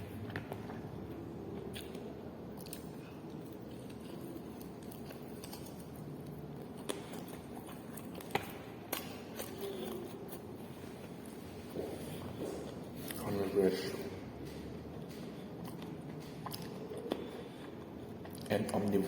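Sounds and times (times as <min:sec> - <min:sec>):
person chewing food: 0:00.1 - 0:19.0.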